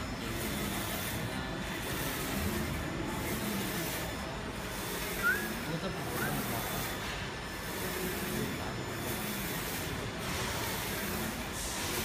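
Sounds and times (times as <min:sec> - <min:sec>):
printer carriage whirring: 0:00.0 - 0:12.0.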